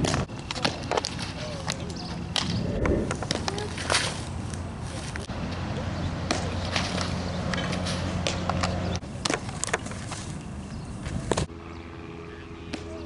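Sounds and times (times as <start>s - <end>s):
low outdoor hum: 0.0s - 13.0s.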